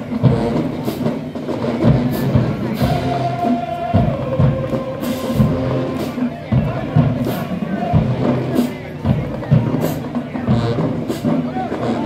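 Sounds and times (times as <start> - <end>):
drum strikes: 0.0 - 12.0
marching band playing: 0.0 - 12.0.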